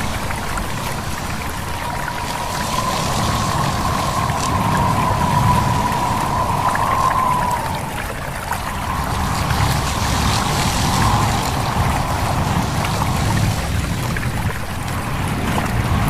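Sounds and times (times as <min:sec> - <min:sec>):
low wind rumble: 0:00.0 - 0:16.0
stream babbling: 0:00.0 - 0:16.0.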